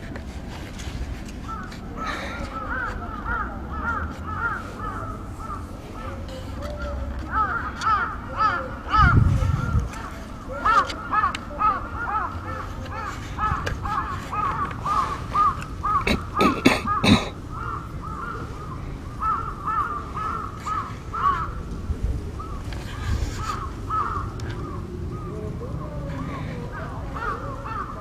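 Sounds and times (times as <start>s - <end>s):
crows cawing: 1.4s - 28.0s.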